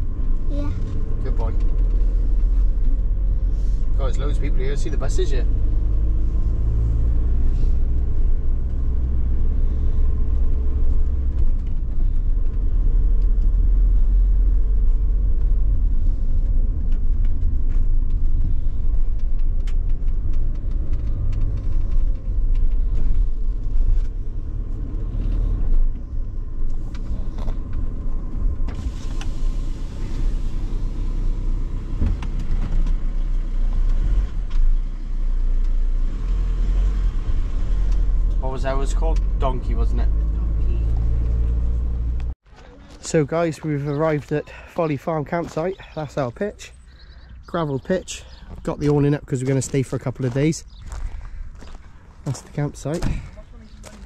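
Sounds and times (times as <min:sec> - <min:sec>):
van engine and road rumble: 0:00.0 - 0:54.0.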